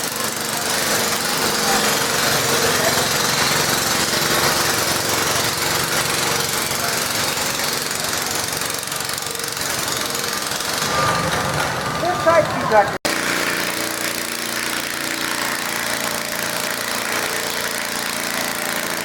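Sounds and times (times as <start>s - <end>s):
tractor engine running loud: 0.0s - 19.0s.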